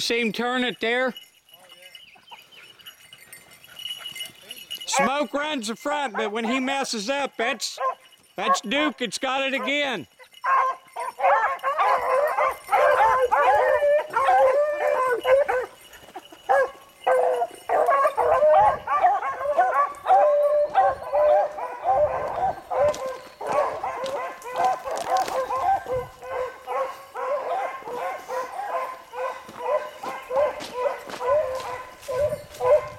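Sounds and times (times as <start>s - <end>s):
hounds baying: 1.6s - 6.9s, 7.6s - 32.9s.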